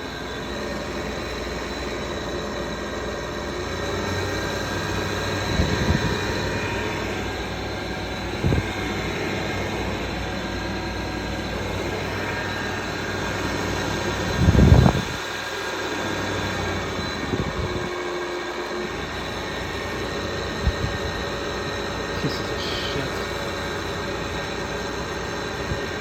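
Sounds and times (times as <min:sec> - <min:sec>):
air conditioner drone: 0:00.0 - 0:26.0
whining fan motor: 0:00.0 - 0:26.0.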